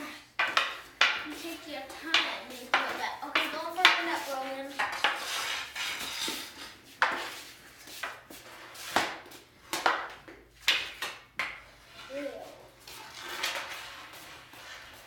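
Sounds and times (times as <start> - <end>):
stick blades knocking the floor: 0.4 - 11.7, 12.9 - 14.8
hockey sticks hitting a ball: 0.4 - 15.0.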